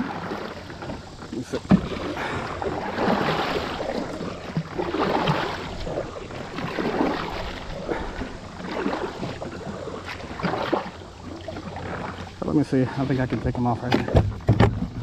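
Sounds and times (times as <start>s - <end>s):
water sloshing around a kayak: 0.0s - 15.0s.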